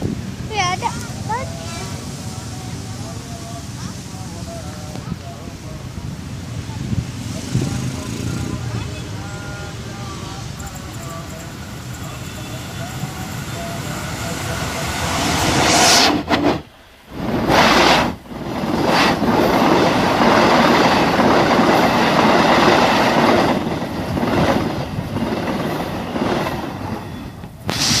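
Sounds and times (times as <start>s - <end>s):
train passing close by: 0.0s - 28.0s.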